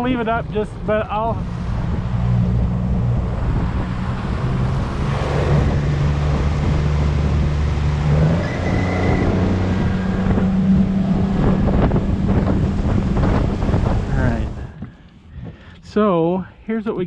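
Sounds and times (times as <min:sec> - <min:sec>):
outboard motor running: 0:00.0 - 0:14.9
boat wake rushing: 0:00.0 - 0:15.5
wind buffeting microphone: 0:00.0 - 0:17.0.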